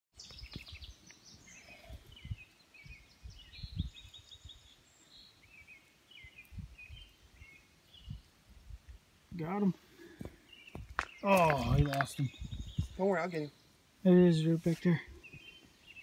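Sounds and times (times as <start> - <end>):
songbirds chirping and singing: 0.2 - 16.0.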